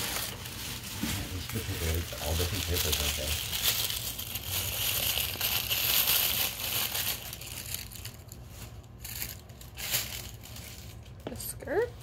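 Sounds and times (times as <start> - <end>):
packaging wrappers crinkling: 0.0 - 11.9.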